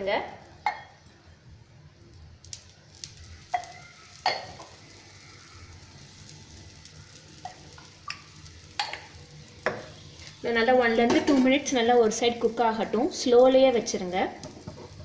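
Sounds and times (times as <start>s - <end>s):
oil sizzling on a griddle: 0.0s - 15.0s.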